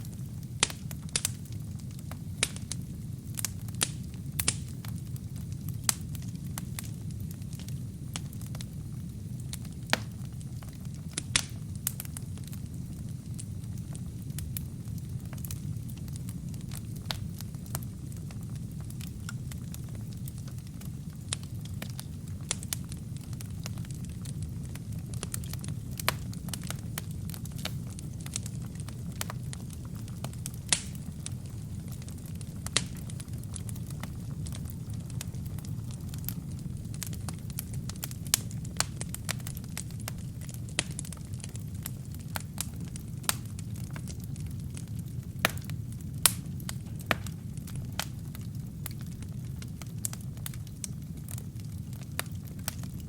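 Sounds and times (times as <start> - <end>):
loud fire pops: 0.0 - 53.0
low rumble of flames: 0.0 - 53.0
wood fire crackling: 0.0 - 53.0.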